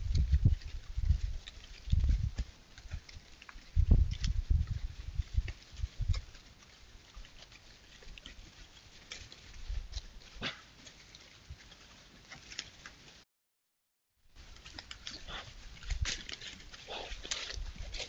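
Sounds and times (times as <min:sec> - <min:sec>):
twigs cracking: 0:00.0 - 0:13.1, 0:14.4 - 0:18.0
animal rustling through dry leaves: 0:00.0 - 0:13.2, 0:14.3 - 0:18.0.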